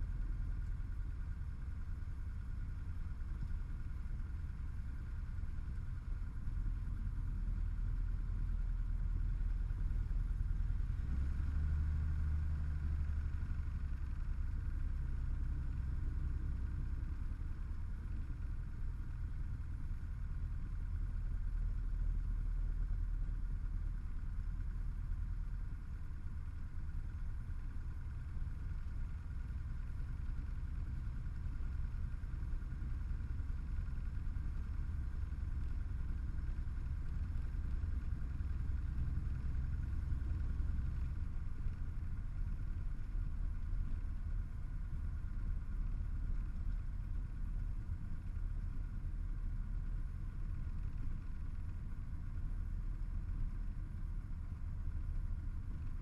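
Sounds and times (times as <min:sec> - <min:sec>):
light aircraft engine drone in cabin: 0:00.0 - 0:56.0.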